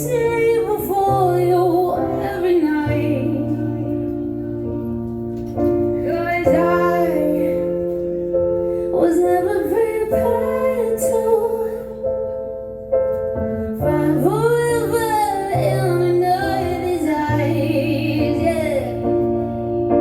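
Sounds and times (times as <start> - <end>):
woman singing: 0.0 - 4.4, 5.9 - 8.1, 8.8 - 12.0, 13.8 - 20.0
piano chords: 0.0 - 20.0.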